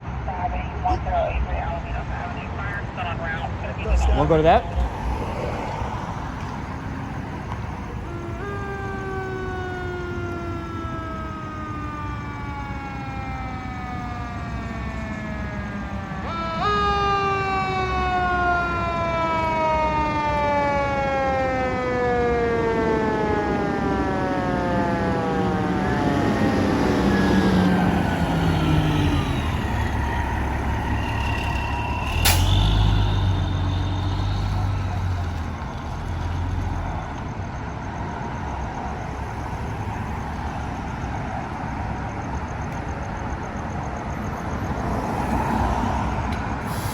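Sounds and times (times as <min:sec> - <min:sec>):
fire engine siren: 0:00.0 - 0:46.9
truck engine and road noise: 0:00.0 - 0:46.9.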